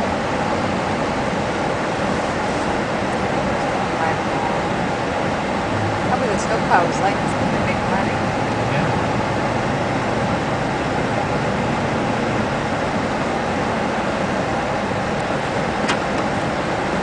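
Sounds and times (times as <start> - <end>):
car driving through snow: 0.0 - 17.0.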